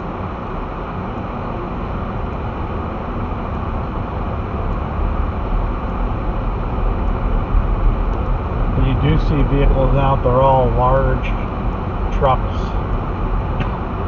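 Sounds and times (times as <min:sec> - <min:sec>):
road and engine noise in vehicle: 0:00.0 - 0:14.0.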